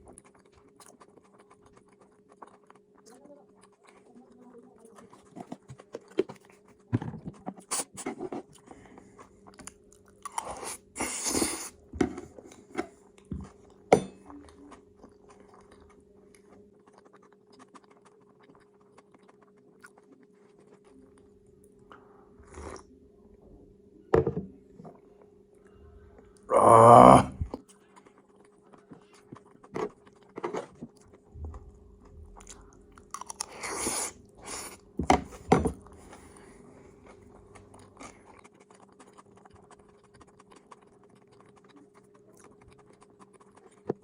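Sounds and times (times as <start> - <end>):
person chewing food: 0.0 - 4.2, 5.0 - 22.9, 26.2 - 44.0.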